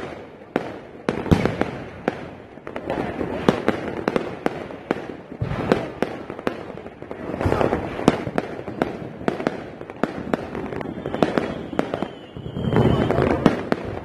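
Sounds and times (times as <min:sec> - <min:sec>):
fireworks sharp bangs: 0:00.0 - 0:14.0
rumble of distant fireworks: 0:00.0 - 0:14.0.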